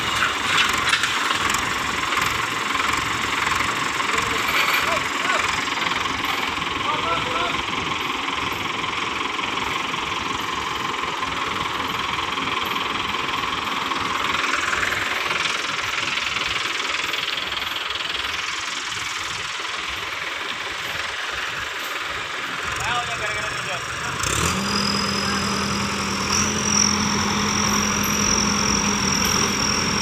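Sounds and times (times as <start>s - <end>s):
heavy diesel engines running: 0.0s - 30.0s.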